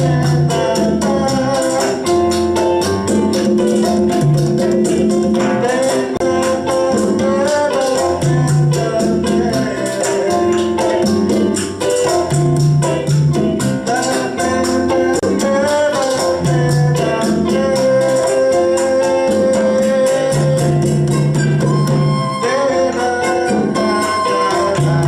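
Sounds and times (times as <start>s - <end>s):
repeating bass line: 0.0s - 25.0s
shaker and hand percussion: 0.0s - 25.0s.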